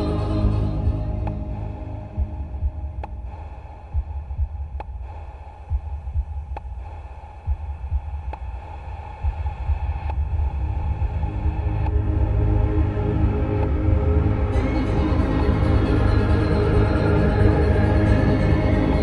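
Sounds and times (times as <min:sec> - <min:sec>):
uneven low pulses: 0:00.0 - 0:19.0.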